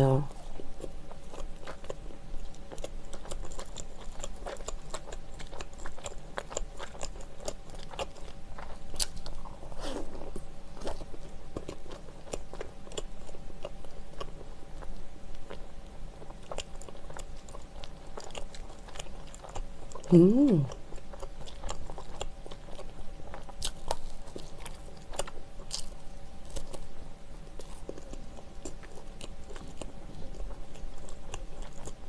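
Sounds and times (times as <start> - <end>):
person chewing bread: 0.3 - 32.0.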